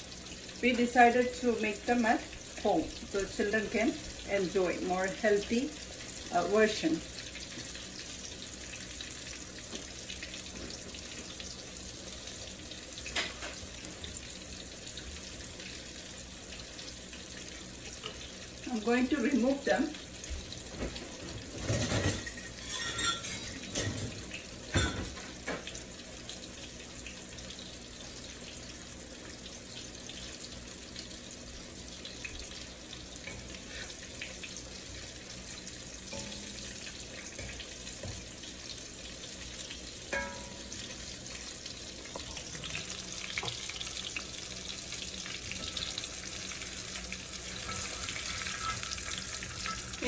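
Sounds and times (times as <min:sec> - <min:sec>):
food sizzling in oil: 0:00.0 - 0:50.0.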